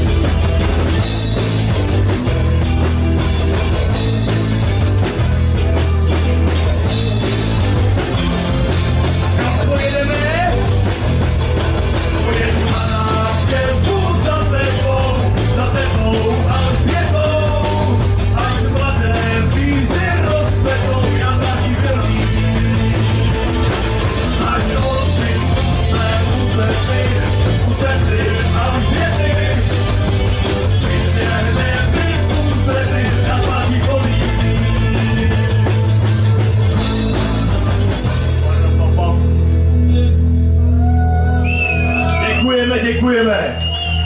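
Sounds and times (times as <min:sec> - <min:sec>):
rock band playing loudly: 0:00.0 - 0:44.0.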